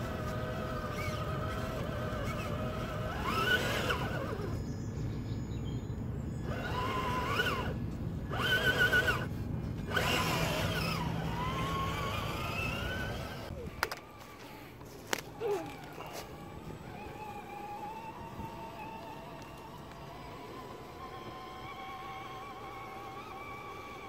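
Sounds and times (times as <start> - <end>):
rc car motor whining: 0.0 - 4.8, 6.3 - 24.0.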